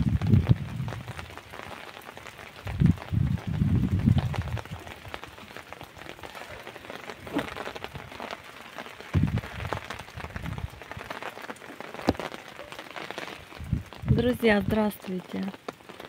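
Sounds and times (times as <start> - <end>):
rain falling on plants: 0.0 - 16.0.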